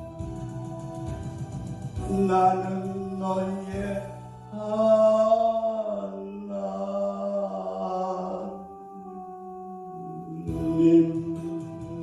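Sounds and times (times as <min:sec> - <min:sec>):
man singing a hymn: 0:02.0 - 0:12.0.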